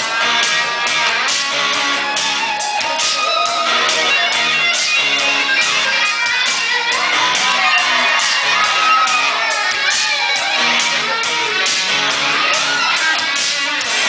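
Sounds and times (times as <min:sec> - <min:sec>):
upbeat band music: 0:00.0 - 0:14.0.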